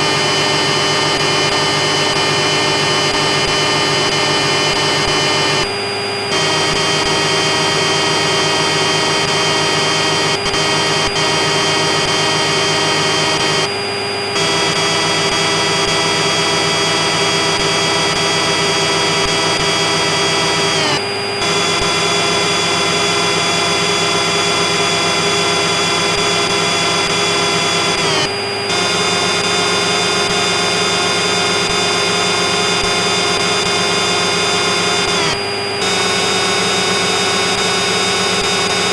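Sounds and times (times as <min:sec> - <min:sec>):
machine whining: 0:00.0 - 0:38.9.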